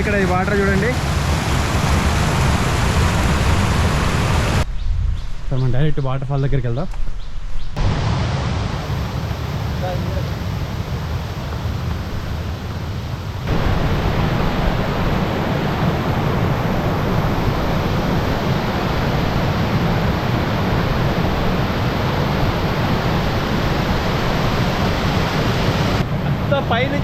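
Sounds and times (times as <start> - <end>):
waterfall roaring: 0.0 - 4.6, 7.8 - 27.0.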